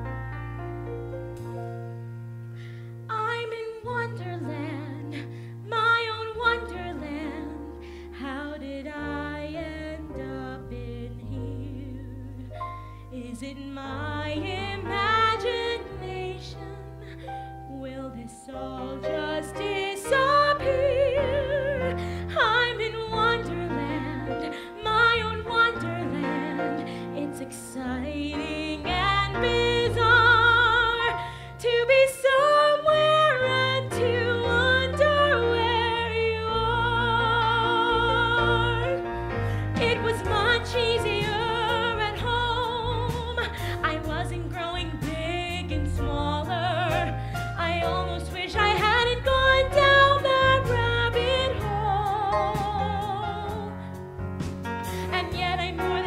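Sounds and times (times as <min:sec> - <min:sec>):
instrumental accompaniment: 0:00.0 - 0:56.0
woman singing with vibrato: 0:03.1 - 0:17.1, 0:17.7 - 0:53.8, 0:55.0 - 0:56.0.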